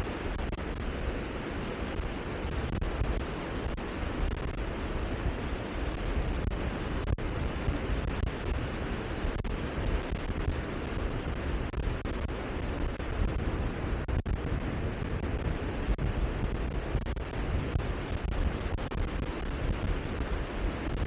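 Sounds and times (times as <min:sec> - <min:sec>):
rushing outdoor noise: 0:00.0 - 0:21.0.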